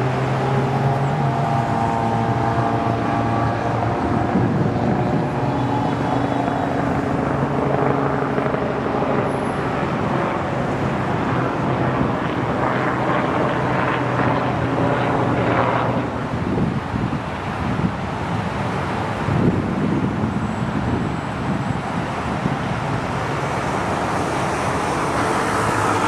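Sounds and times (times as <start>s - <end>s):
jet engine drone: 0.0s - 26.0s
loud rushing noise: 0.0s - 26.0s.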